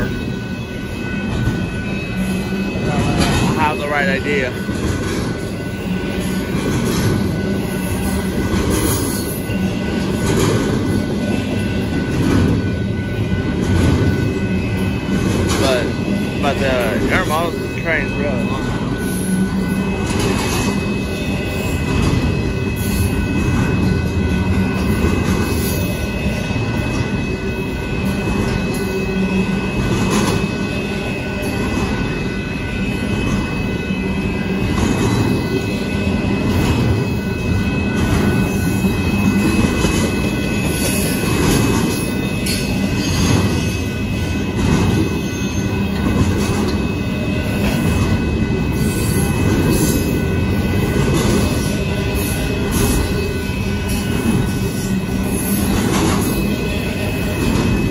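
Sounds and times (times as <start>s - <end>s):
steel wheels rumbling on rail: 0.0s - 57.9s
wheels clacking over rail joints: 2.8s - 27.2s, 29.7s - 32.2s, 34.6s - 57.9s.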